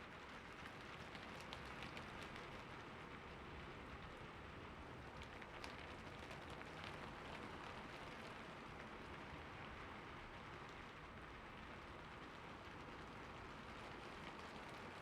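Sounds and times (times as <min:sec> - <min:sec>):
soft steady rain: 0:00.0 - 0:15.0.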